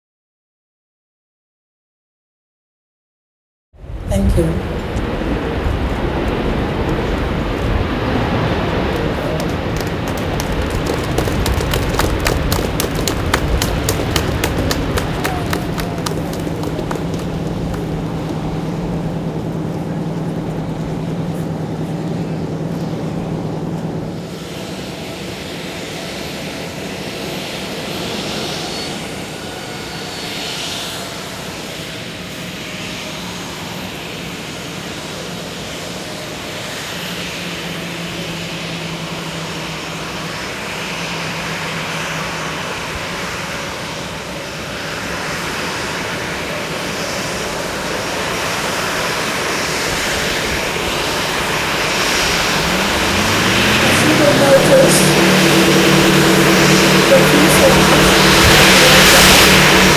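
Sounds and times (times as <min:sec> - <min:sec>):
faint whine: 0:03.8 - 0:59.9
jet engines taxiing: 0:03.8 - 0:59.9.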